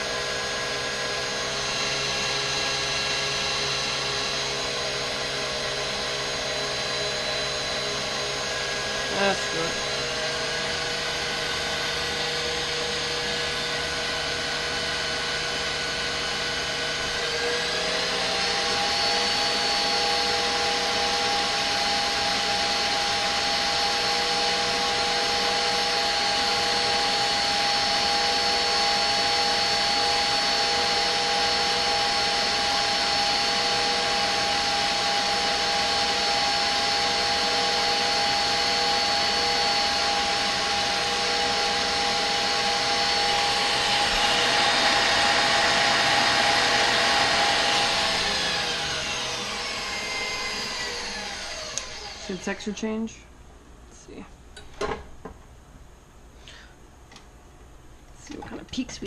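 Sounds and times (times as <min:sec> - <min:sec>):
electric mixer motor running: 0:00.0 - 0:52.8.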